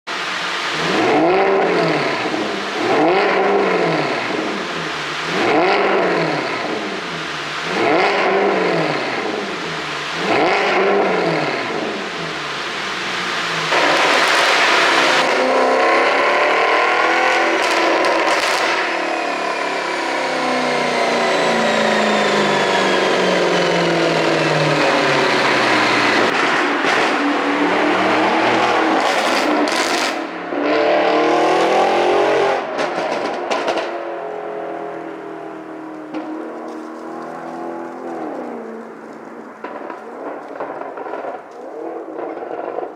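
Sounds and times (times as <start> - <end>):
car engine revving: 0.1 - 42.9
exhaust pops and crackles: 0.6 - 15.6, 16.5 - 19.2, 23.3 - 30.3, 31.4 - 42.9.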